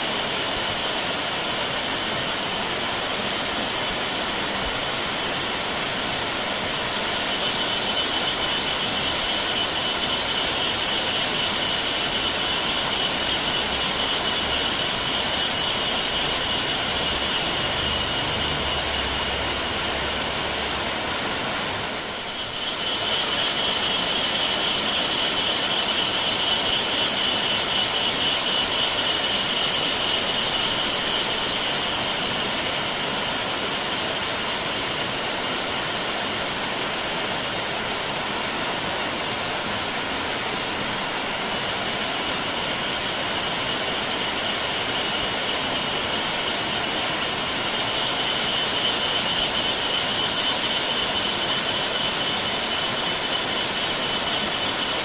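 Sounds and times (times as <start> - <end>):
cicadas buzzing: 0.0 - 55.0
waterfall cascading over rocks: 0.0 - 55.0.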